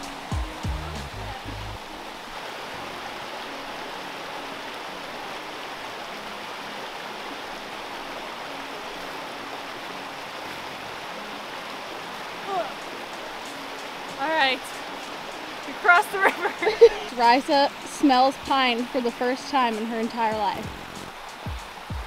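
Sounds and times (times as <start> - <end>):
brook running over rocks: 0.3 - 22.0.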